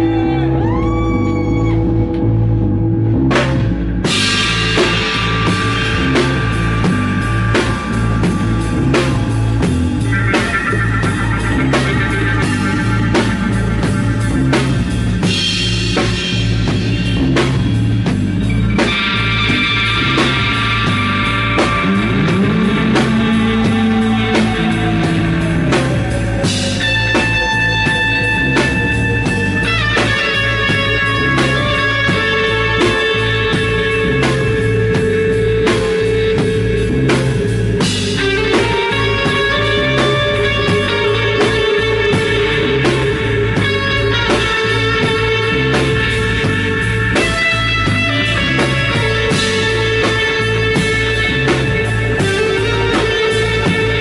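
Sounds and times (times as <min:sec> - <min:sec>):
electric guitar sliding note: 0:00.0 - 0:54.0
live rock band playing: 0:00.0 - 0:54.0.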